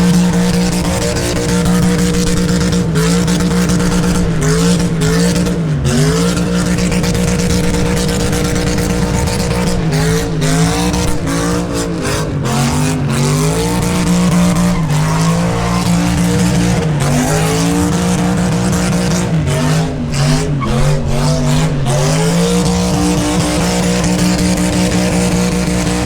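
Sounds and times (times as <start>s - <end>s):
engine revving at high revs: 0.0s - 26.0s
tyres squealing on pavement: 0.0s - 26.0s.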